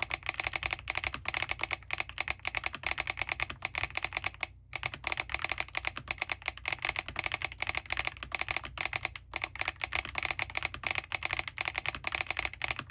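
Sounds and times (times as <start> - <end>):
fast mechanical keyboard typing: 0.0 - 12.9.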